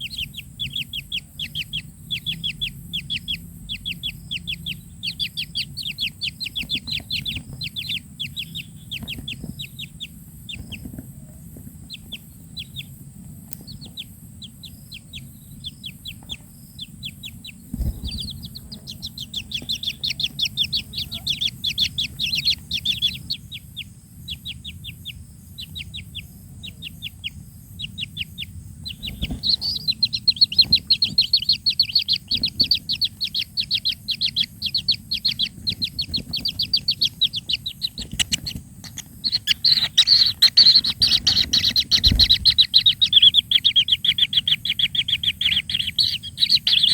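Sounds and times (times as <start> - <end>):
bird chick chirping rapidly: 0.0 - 46.9.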